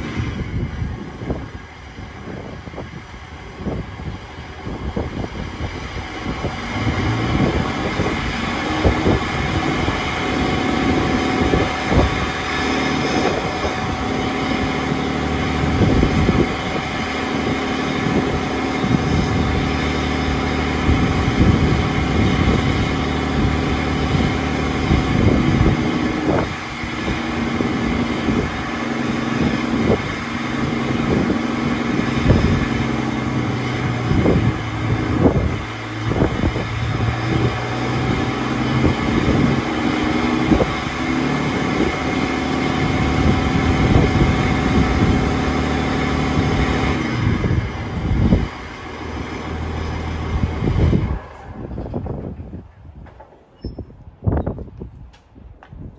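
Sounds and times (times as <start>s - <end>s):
diesel engine idling: 0.0s - 52.5s.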